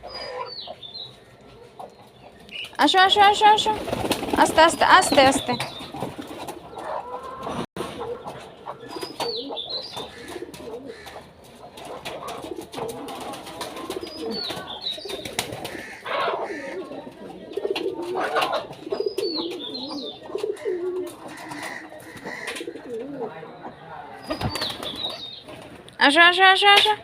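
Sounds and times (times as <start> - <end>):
pigeons cooing: 0.0 - 25.9
birds scuffling: 0.2 - 27.0.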